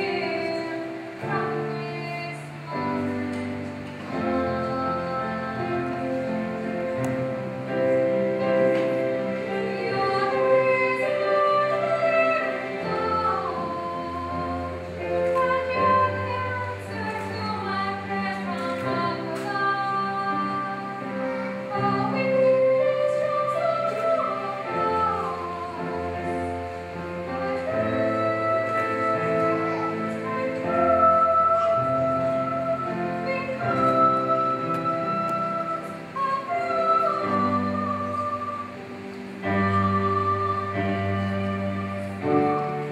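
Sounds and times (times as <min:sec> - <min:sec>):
slow music with singing voice: 0:00.0 - 0:42.9.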